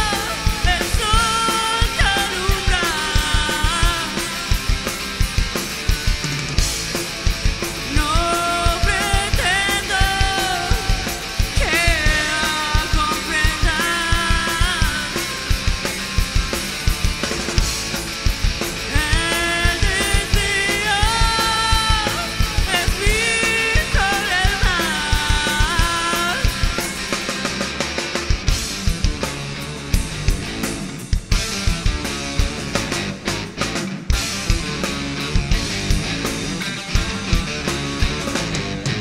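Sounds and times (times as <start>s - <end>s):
drum kit beat: 0.0s - 39.0s
live rock band playing: 0.0s - 39.0s.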